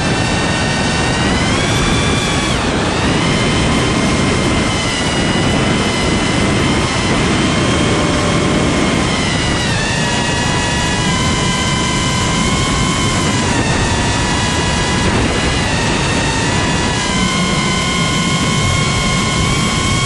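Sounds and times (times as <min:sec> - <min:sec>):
drone motors whining: 0:00.0 - 0:20.0
propeller rush: 0:00.0 - 0:20.0.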